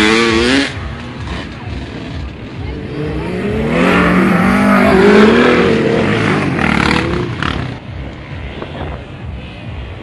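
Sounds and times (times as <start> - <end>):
motorcycles racing past: 0.0 - 8.0.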